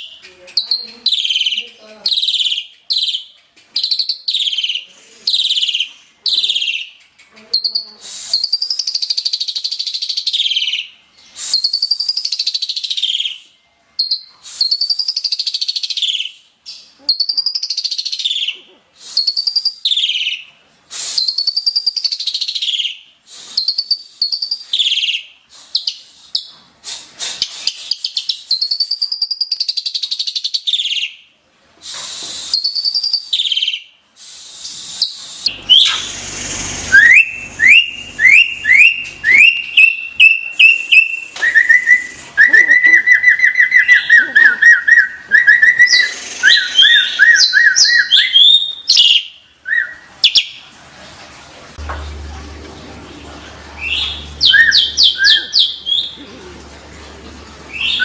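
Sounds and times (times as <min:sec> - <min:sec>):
starling singing whistles and trills: 0:00.0 - 0:31.2, 0:31.9 - 0:50.5, 0:53.8 - 0:56.2.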